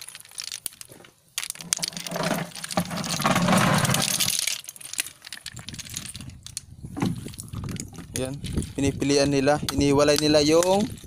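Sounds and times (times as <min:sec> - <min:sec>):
snail shells clattering: 0:00.0 - 0:11.0.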